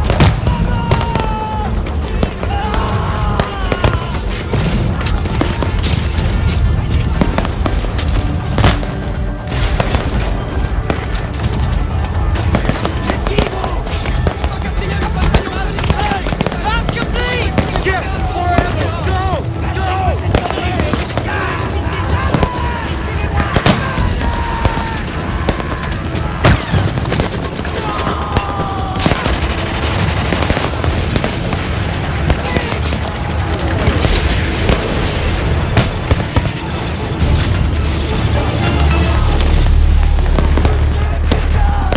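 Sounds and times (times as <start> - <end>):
fireworks bangs and crackles: 0.0 - 41.9
music playing: 0.0 - 41.9.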